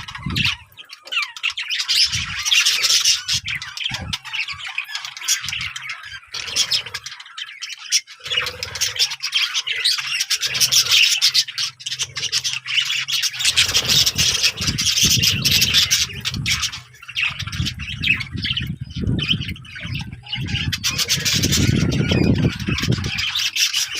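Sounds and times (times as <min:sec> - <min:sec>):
birds chattering and squawking: 0:00.0 - 0:23.9.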